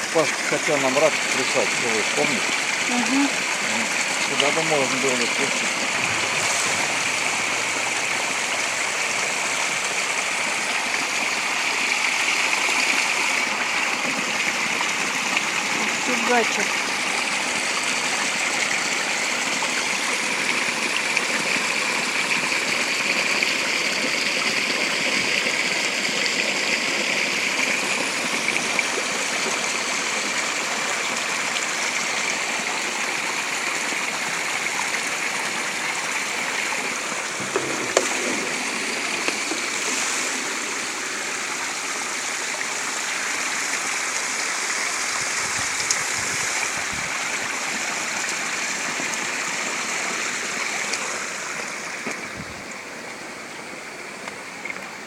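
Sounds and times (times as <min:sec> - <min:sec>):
spring water rushing: 0:00.0 - 0:55.0.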